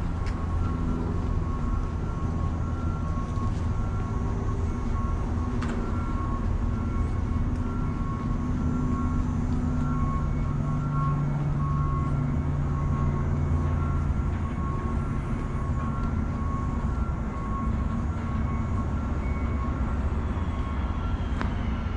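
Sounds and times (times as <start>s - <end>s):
engines and street traffic rumble: 0.0s - 21.9s.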